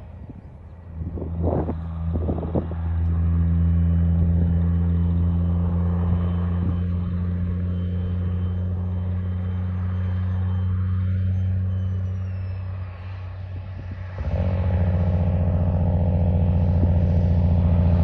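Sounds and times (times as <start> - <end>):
heavy truck engine droning: 0.0 - 18.0.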